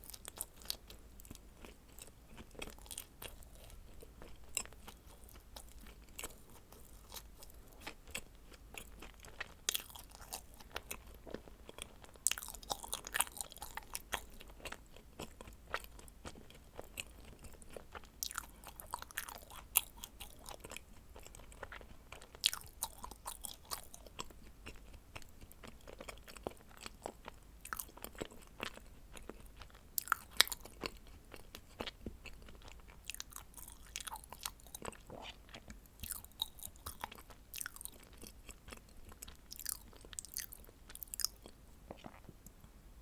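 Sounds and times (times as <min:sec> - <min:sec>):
close chewing of crisp cookies: 0:00.0 - 0:42.8.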